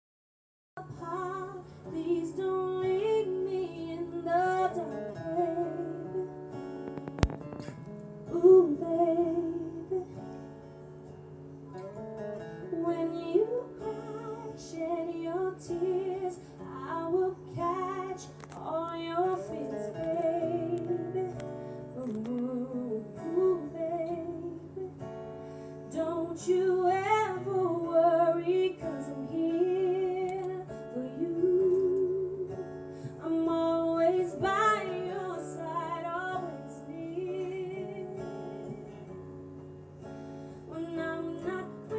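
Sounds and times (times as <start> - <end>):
woman singing: 0.8 - 6.6, 8.2 - 10.5, 12.6 - 25.2, 25.8 - 39.2, 40.6 - 41.9
strummed acoustic guitar: 0.8 - 41.9.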